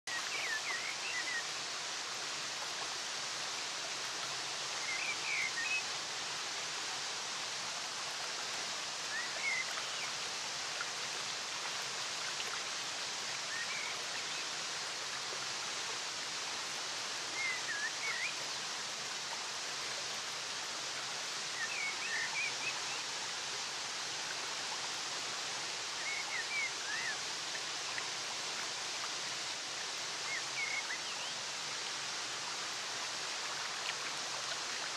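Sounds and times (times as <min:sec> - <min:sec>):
waterfall and stream rushing: 0:00.1 - 0:34.9.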